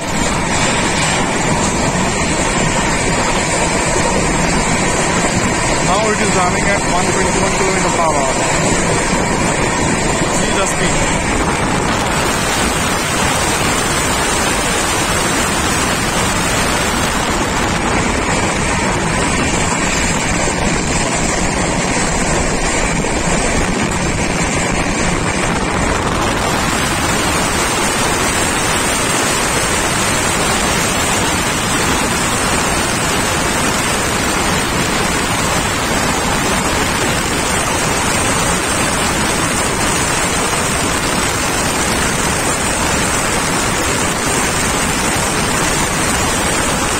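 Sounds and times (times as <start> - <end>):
train wheels on rails: 0.0 - 46.9
wind buffeting microphone: 0.0 - 46.9.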